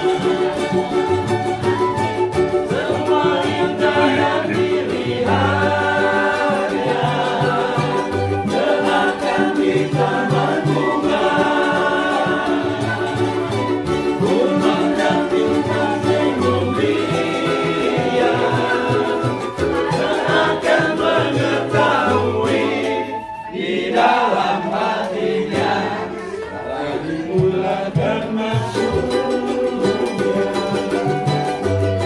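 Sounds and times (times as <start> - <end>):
plucked cello bass: 0.0 - 23.2, 24.6 - 32.0
men singing together: 0.0 - 31.3
flute: 0.0 - 32.0
ukulele strumming: 0.0 - 32.0.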